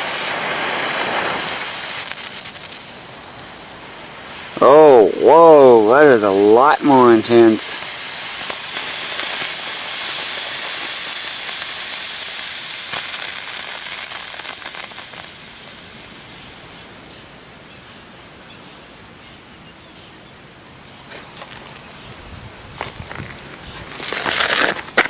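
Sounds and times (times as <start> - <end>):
faint firework crackles: 0.0 - 17.0, 20.9 - 25.0
firework hissing: 0.0 - 17.0, 21.0 - 21.9, 22.5 - 25.0.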